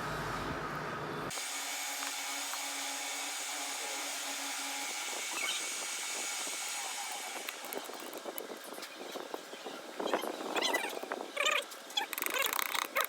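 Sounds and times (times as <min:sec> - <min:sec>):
steady mechanical hiss: 0:01.3 - 0:11.9.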